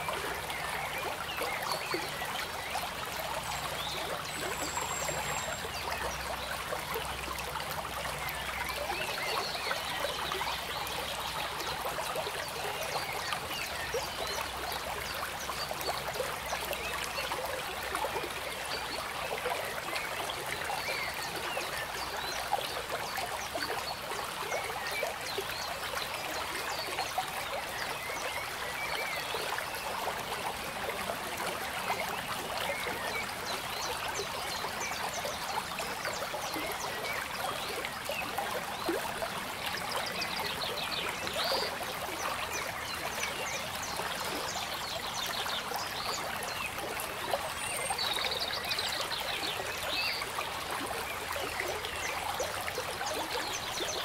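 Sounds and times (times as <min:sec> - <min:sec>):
water trickling and babbling: 0:00.0 - 0:54.0.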